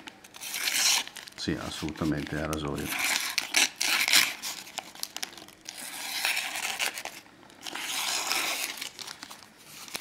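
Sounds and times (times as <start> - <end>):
paper and plastic wrapping crinkling: 0.0 - 10.0.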